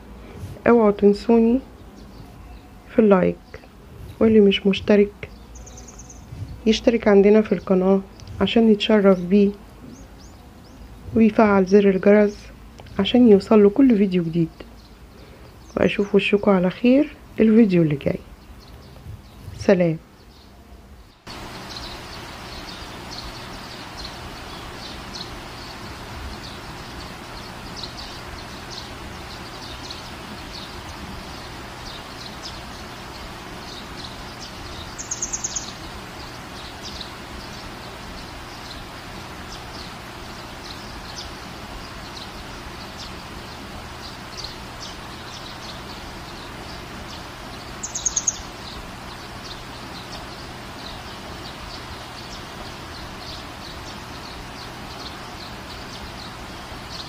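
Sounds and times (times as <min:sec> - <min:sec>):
bird chirping trills: 0:00.0 - 0:57.0
birds chirping: 0:00.0 - 0:57.0
steady background hiss: 0:00.0 - 0:57.0.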